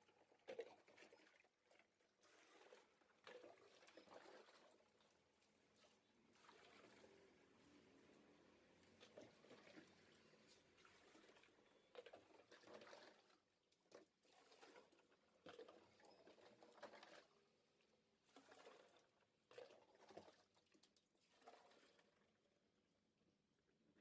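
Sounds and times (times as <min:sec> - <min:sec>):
water pattering and splashing: 0:00.0 - 0:22.3.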